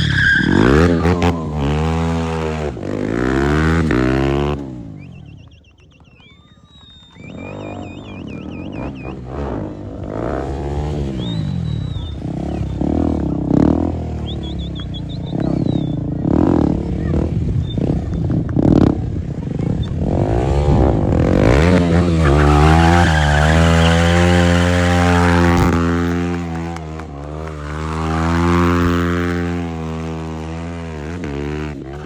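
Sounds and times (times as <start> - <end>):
motorcycle engine revving: 0.0 - 5.6, 7.2 - 32.0.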